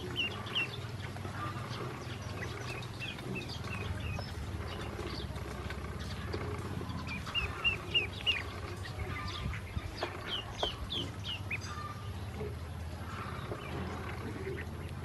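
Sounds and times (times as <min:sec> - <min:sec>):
ducklings peeping: 0:00.0 - 0:15.0
low steady hum: 0:00.0 - 0:15.0.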